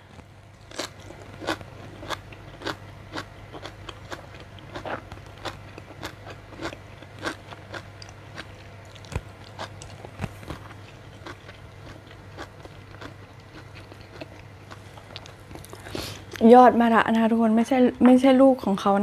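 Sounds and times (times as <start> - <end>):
person chewing crunchy food: 0.0 - 16.4.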